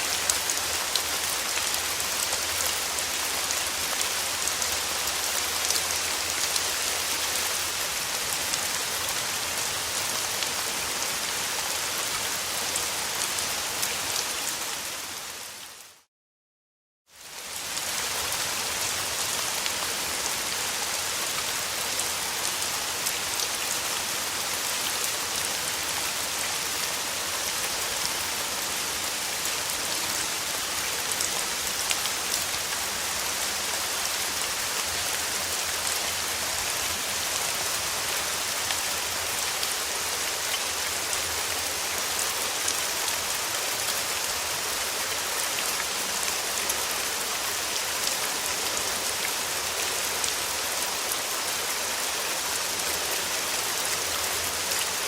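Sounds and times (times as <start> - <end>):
steady rain falling: 0.0 - 16.1, 17.1 - 55.0.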